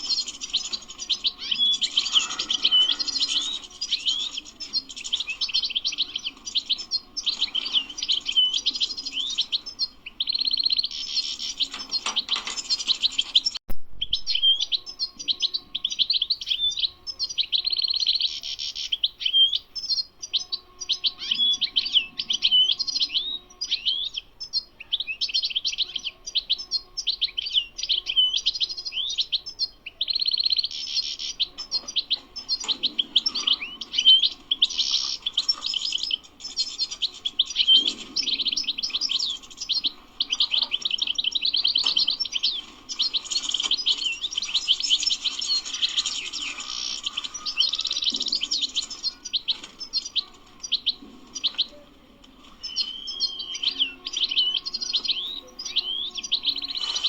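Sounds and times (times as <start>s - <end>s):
bird singing rapid twittering: 0.0s - 51.8s, 52.4s - 57.0s.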